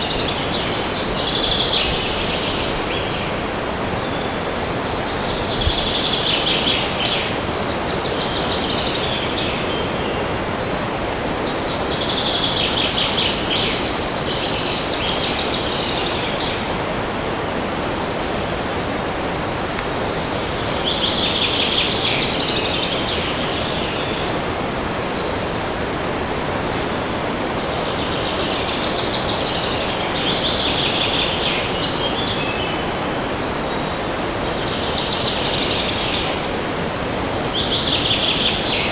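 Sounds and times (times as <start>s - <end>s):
songbird singing: 0.0s - 38.9s
wind rushing through trees: 0.0s - 38.9s.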